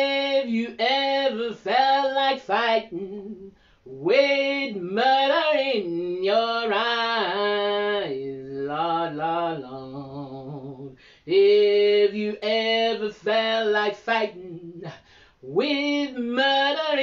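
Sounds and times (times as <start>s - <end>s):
woman singing blues: 0.0s - 17.0s.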